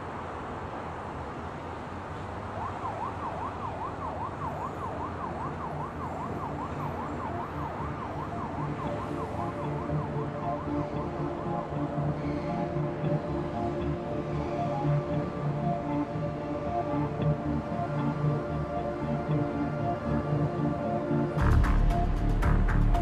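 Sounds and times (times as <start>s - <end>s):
city traffic hum: 0.0s - 23.0s
emergency siren wailing: 2.3s - 22.0s.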